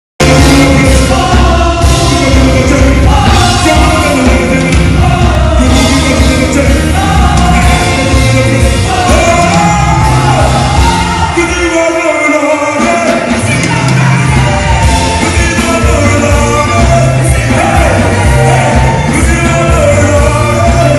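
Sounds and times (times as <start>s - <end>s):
heavy bass line: 0.2s - 11.8s, 13.3s - 20.9s
person singing: 0.2s - 20.9s.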